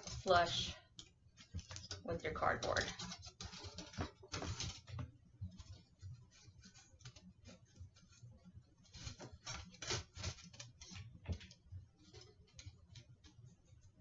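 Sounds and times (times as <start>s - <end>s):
clicks taps and scrapes: 0.0s - 14.0s.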